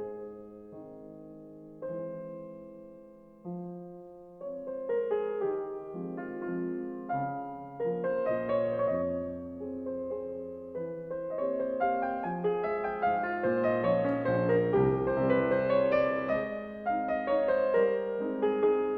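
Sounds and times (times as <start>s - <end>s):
gentle piano music: 0.0s - 18.9s.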